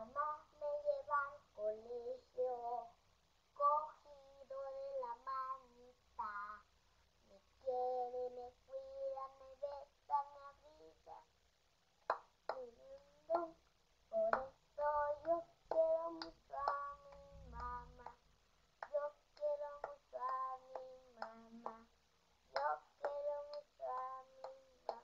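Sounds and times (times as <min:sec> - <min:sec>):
girl singing: 0:00.0 - 0:11.3, 0:12.4 - 0:18.2, 0:18.8 - 0:25.0.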